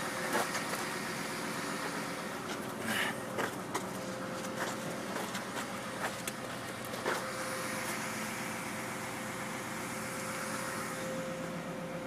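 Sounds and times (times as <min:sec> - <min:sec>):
faint steady whine: 0:00.0 - 0:12.0
vehicle engine humming: 0:00.0 - 0:12.0.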